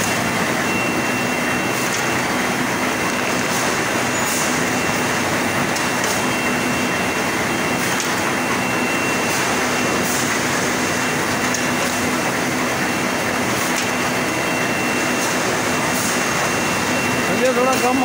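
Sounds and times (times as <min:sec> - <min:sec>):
machine running with hum and whine: 0:00.0 - 0:18.0.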